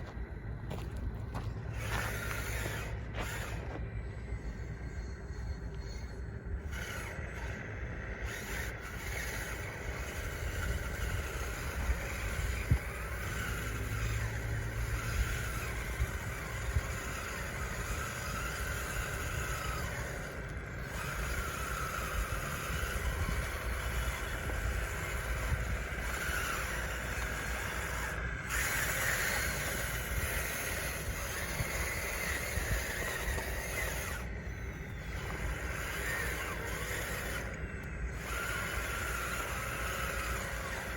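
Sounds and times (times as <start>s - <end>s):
small electric motors whining: 0.0s - 40.9s.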